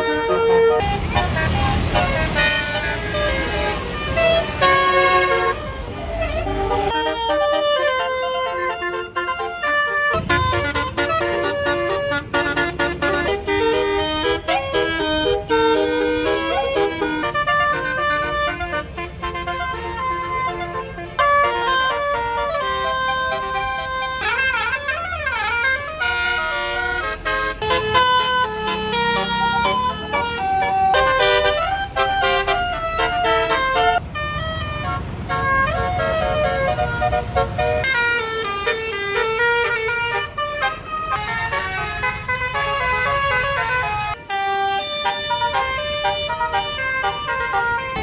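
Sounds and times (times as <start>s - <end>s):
bus horn playing a tune: 0.0s - 48.0s.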